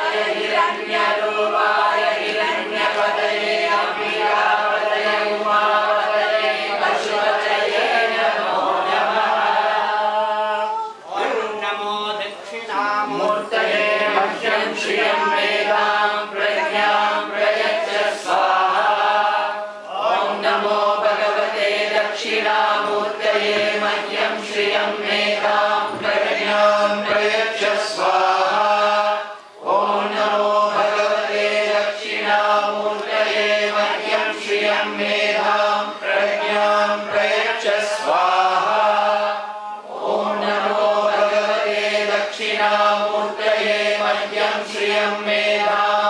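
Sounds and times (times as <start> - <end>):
voices chanting together: 0.0 - 46.0.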